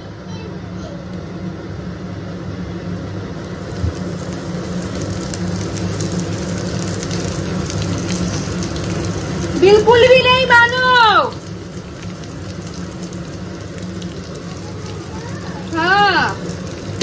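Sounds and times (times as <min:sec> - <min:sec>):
steady low hum: 0:00.0 - 0:17.0
food sizzling in a pan: 0:03.4 - 0:17.0.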